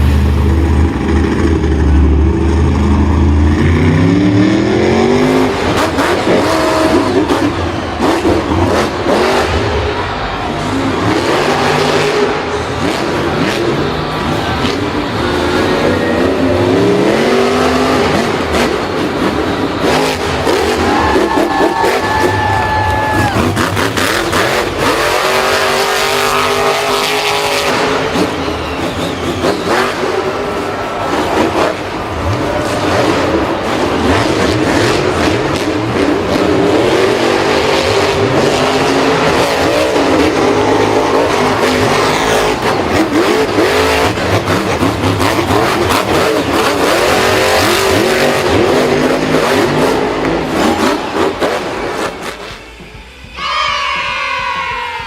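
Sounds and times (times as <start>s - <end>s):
vehicle engine revving: 0.0s - 53.4s.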